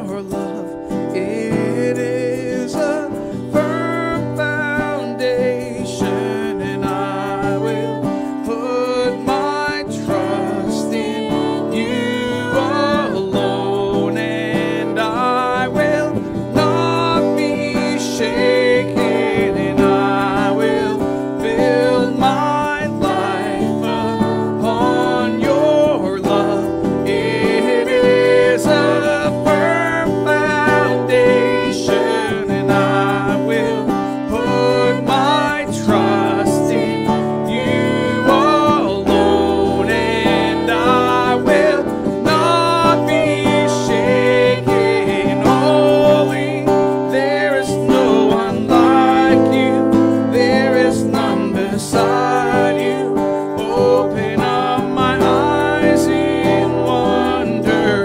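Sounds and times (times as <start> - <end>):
acoustic guitar strumming: 0.0 - 58.0
person singing: 0.0 - 58.0.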